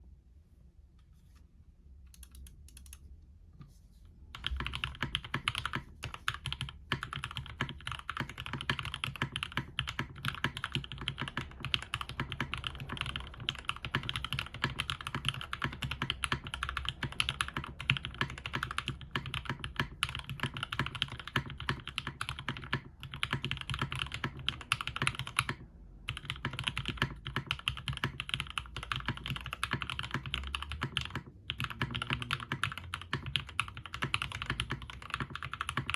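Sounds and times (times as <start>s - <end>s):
mechanical keyboard typing: 2.1s - 3.0s, 4.3s - 35.9s.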